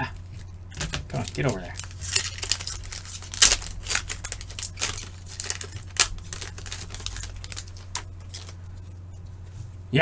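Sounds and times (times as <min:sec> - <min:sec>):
steady low hum: 0:00.0 - 0:10.0
plastic card sleeves rustling: 0:00.2 - 0:09.0.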